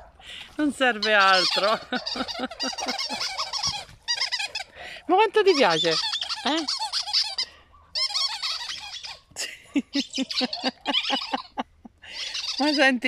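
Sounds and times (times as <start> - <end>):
squeaky toy squeaking: 0.9 - 9.3, 9.9 - 13.0.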